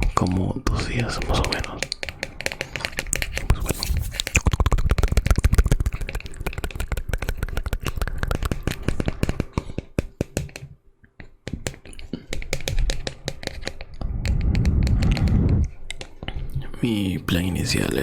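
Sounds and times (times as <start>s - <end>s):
crisp crackles and clicks: 0.0s - 16.6s.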